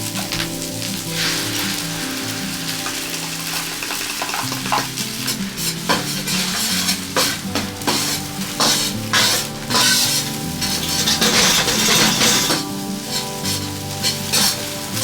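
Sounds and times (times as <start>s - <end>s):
background music: 0.0s - 15.0s
food sizzling in a pan: 0.0s - 15.0s
scraping strokes in a pan: 0.0s - 15.0s.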